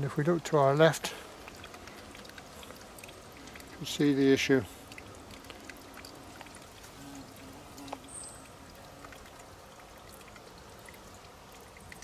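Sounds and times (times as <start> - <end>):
small water drips: 0.0 - 12.0
water trickling from rock: 0.0 - 12.0.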